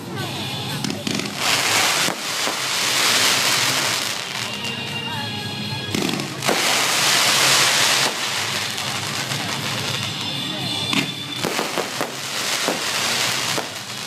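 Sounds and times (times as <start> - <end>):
fireworks hissing rush: 0.0 - 14.0
fireworks bangs and cracks: 0.6 - 4.9, 5.8 - 14.0.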